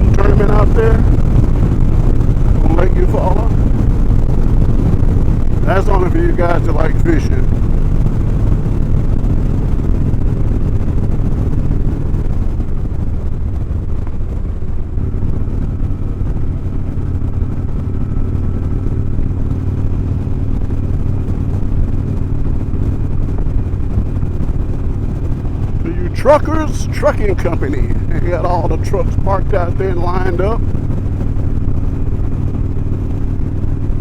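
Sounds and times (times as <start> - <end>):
motorcycle engine cruising: 0.0 - 34.0
road noise: 0.0 - 34.0.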